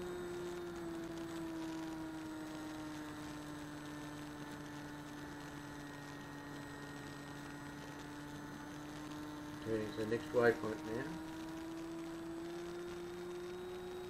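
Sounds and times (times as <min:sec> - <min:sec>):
small electric motor and propeller: 0:00.0 - 0:14.0.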